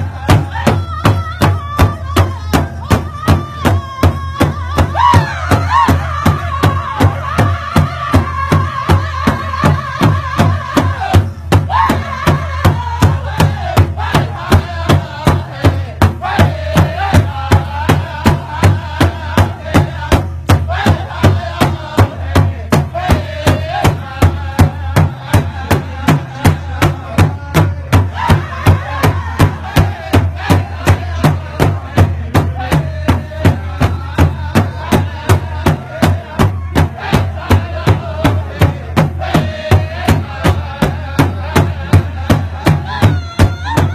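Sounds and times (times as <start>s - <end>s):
high singing voices: 0.0s - 43.9s
large drum beating steadily: 0.0s - 43.9s.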